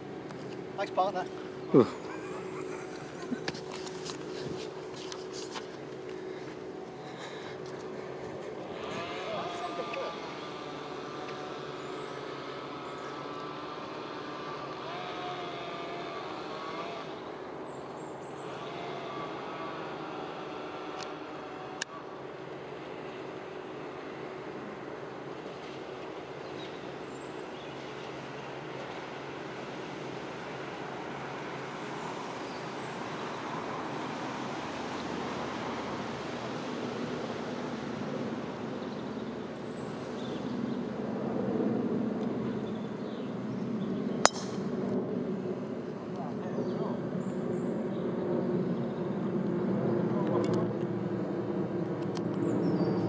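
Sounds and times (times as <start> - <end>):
outdoor hiss and rumble: 0.0 - 53.0.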